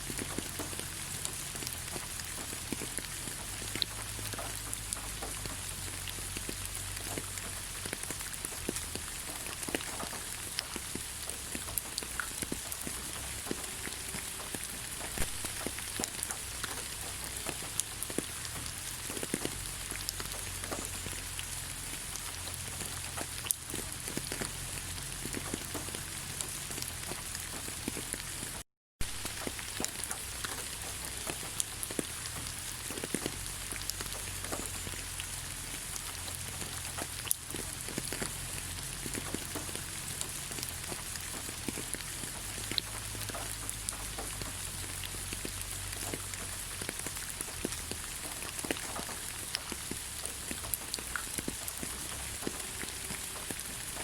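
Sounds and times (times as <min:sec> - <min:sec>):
rain falling on leaves: 0:00.0 - 0:54.0
raindrops tapping: 0:00.0 - 0:54.0.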